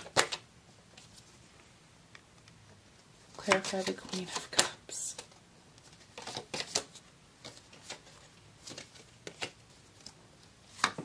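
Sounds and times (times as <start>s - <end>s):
cards being shuffled: 0.0s - 1.3s, 3.3s - 11.0s.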